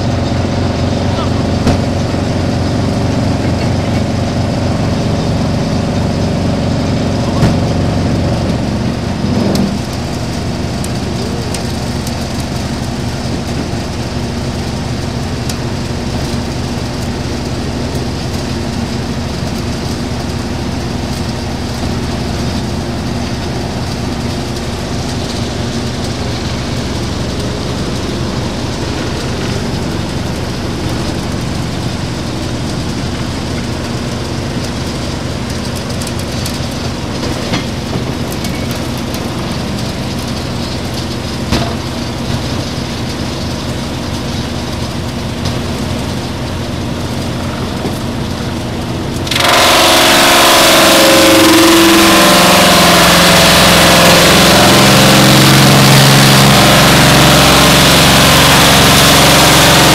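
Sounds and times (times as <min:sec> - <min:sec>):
wood crusher running: 0:00.0 - 0:59.9.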